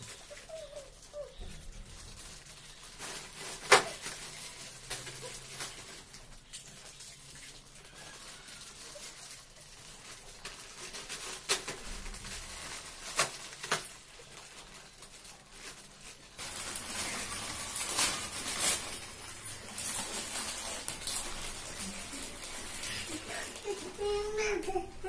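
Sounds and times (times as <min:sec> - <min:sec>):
foil packets crinkling and tearing: 0:00.0 - 0:25.0.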